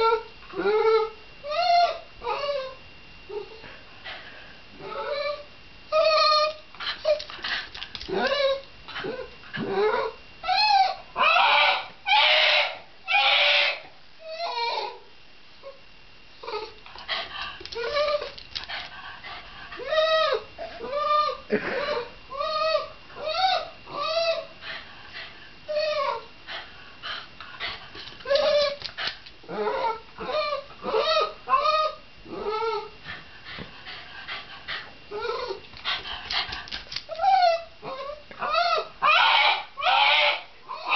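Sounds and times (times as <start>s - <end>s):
dog whining and yelping: 0.0s - 3.6s, 4.8s - 15.0s, 16.4s - 18.9s, 19.7s - 24.6s, 25.7s - 33.1s, 33.9s - 40.9s.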